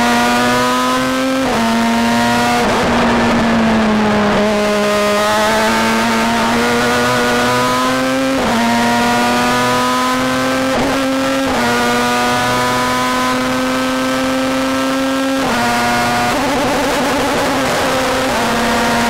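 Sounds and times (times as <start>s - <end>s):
race car engine under power: 0.0s - 19.0s.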